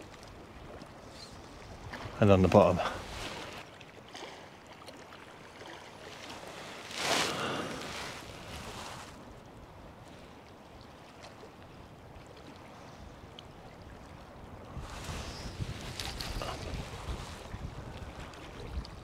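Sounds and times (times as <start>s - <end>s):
water noise on shoreline: 0.0s - 19.0s
wind: 0.0s - 19.0s.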